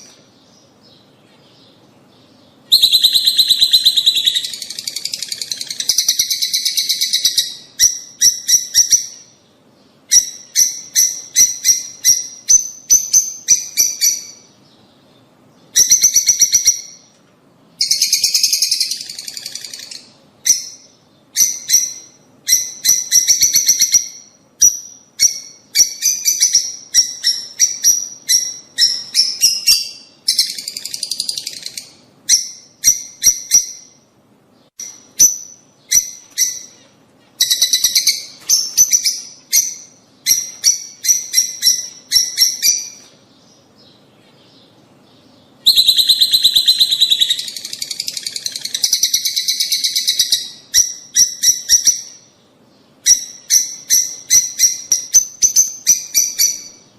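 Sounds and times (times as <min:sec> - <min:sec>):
lovebirds chirping and chattering: 0:00.0 - 0:17.2, 0:17.8 - 0:56.9.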